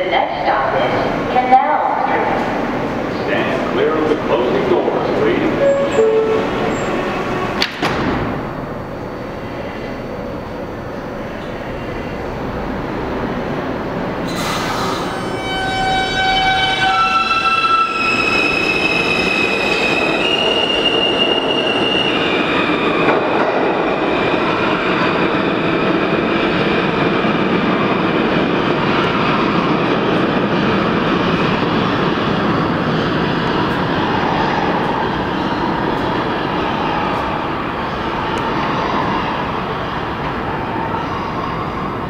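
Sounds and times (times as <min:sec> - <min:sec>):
steel wheels rumbling on rail: 0:00.0 - 0:42.0.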